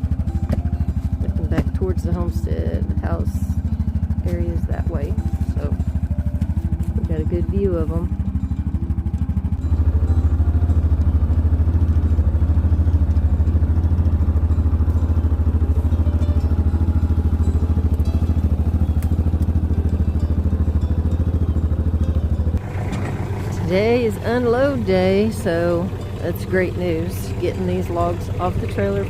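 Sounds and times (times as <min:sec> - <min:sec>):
tractor engine chugging: 0:00.0 - 0:29.0.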